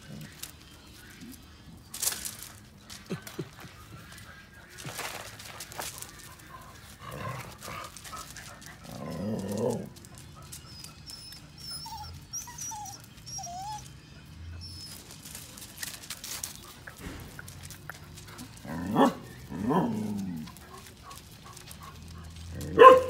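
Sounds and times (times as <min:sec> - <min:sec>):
dogs moving on gravel: 0:00.0 - 0:23.0.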